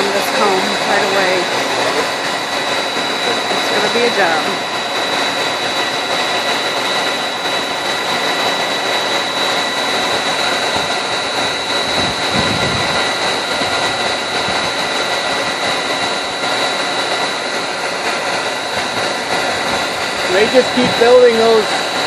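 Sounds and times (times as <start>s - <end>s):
vacuum motor whine and rushing air: 0.0s - 22.0s.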